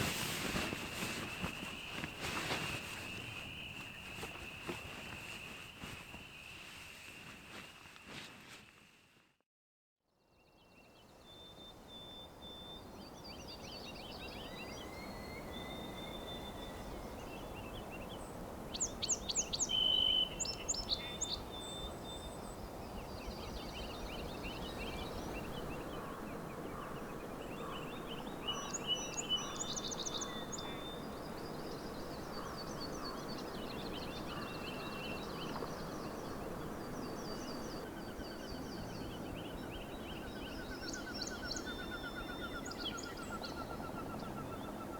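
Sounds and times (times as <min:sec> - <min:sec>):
songbirds singing: 0:00.0 - 0:08.2, 0:10.2 - 0:44.9.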